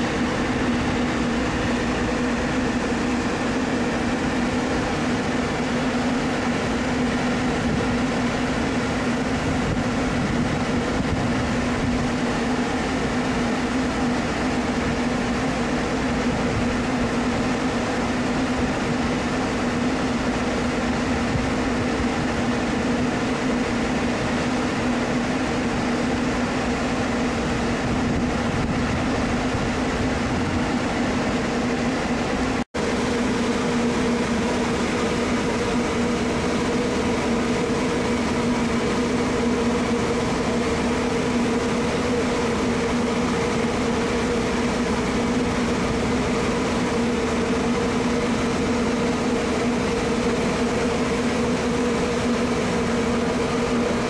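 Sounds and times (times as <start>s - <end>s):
ship machinery hum: 0.0s - 54.0s.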